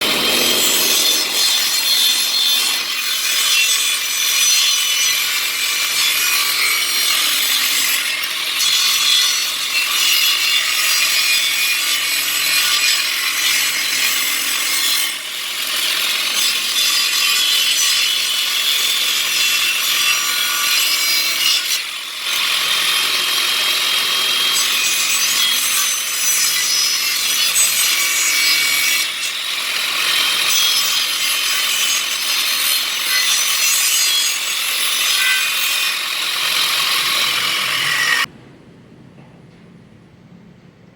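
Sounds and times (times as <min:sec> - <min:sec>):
saw cutting wood board: 0:00.0 - 0:38.3.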